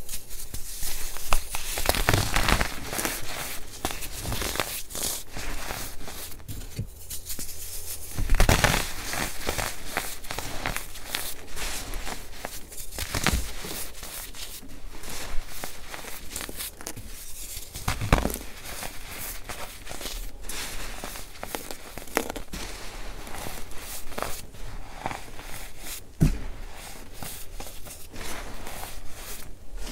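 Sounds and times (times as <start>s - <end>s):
hands crunching baking soda: 0.0s - 29.9s.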